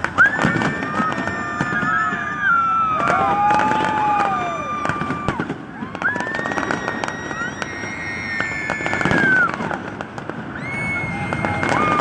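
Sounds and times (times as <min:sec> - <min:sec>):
fireworks crackling bangs: 0:00.0 - 0:12.0
fireworks shrill whistles: 0:00.0 - 0:12.0.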